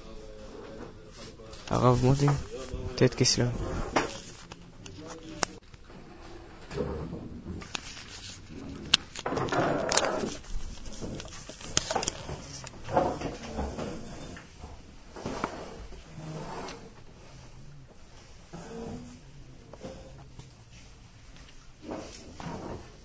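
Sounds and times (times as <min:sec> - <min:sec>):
rustling: 0:00.0 - 0:23.0.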